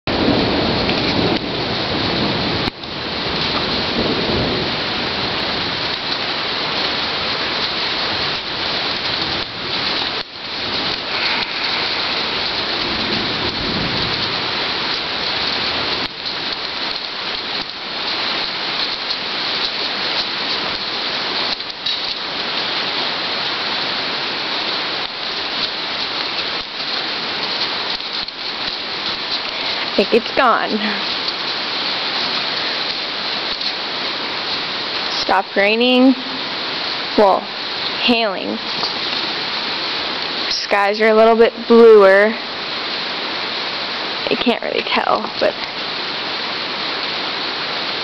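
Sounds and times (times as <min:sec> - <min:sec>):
heavy rain and hail: 0:00.1 - 0:48.0
thunder rumbling: 0:00.1 - 0:48.0.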